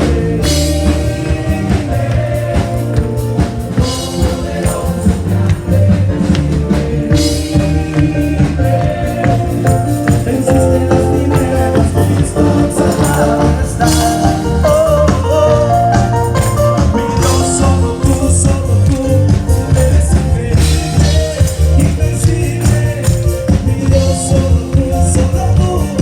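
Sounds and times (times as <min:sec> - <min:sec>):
band playing worship music: 0:00.0 - 0:26.0
people singing: 0:00.0 - 0:26.0.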